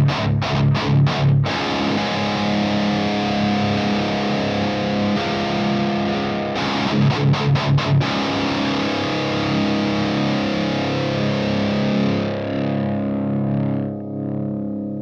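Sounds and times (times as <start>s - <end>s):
distorted electric guitar chord ringing: 0.0s - 15.0s.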